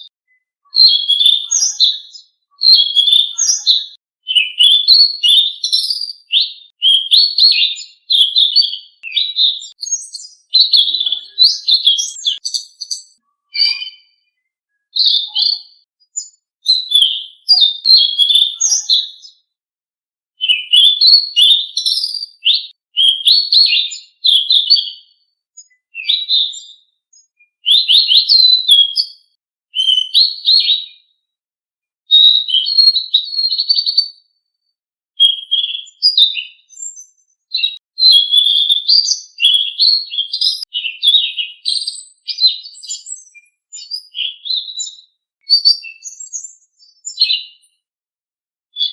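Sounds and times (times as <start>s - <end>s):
songbird high chirping: 0.0s - 19.5s, 20.4s - 29.2s, 35.2s - 47.7s.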